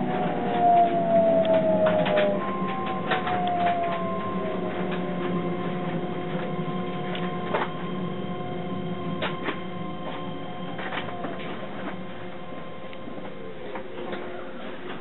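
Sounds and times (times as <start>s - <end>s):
electric train motor hum and whine: 0.0s - 15.0s.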